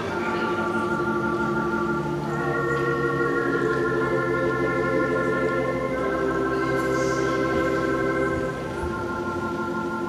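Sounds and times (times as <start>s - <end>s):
organ playing held chords: 0.0s - 10.0s.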